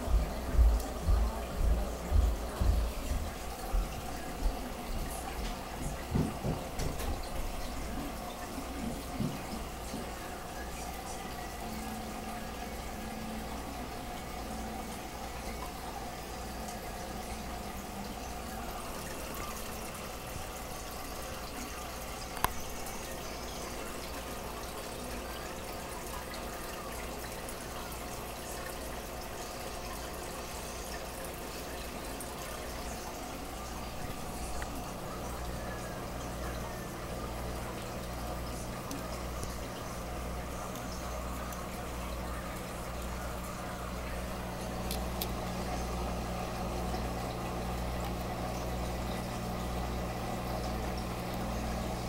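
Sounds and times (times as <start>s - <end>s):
aquarium water bubbling and trickling: 0.0s - 52.0s
low steady hum: 0.0s - 52.0s.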